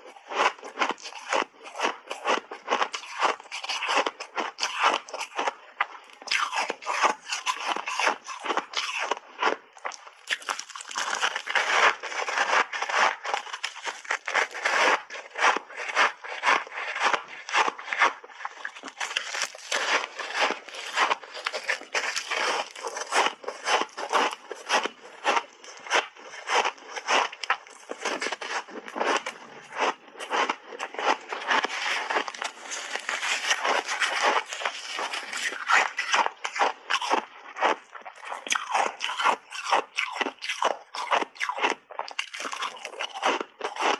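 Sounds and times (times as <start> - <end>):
ice being crunched and chewed: 0.0 - 43.9.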